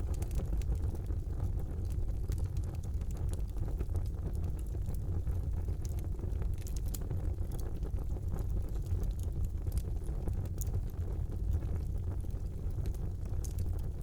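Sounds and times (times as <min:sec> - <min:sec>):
fire crackles and pops: 0:00.0 - 0:14.0
fire rumbling in fireplace: 0:00.0 - 0:14.0.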